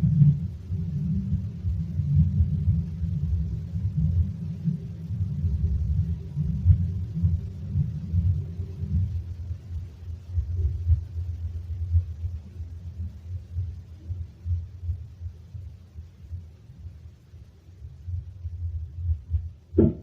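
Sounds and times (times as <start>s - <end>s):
deep pulsing rumbling: 0.0s - 20.0s.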